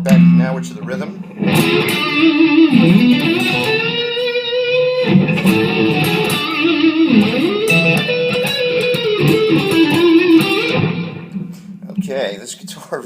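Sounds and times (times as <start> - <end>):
electric guitar through an amp: 0.0 - 12.0.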